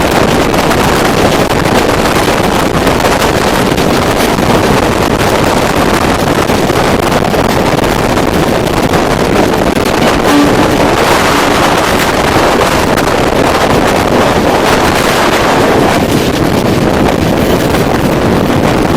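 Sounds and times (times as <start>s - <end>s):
passenger train rushing and rumbling: 0.0s - 18.9s
wind buffeting microphone: 0.0s - 18.9s.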